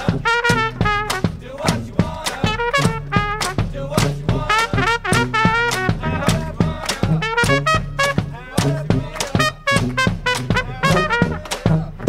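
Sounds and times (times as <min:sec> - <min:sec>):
bass drum hits: 0:00.0 - 0:12.0
brass band playing: 0:00.0 - 0:12.0.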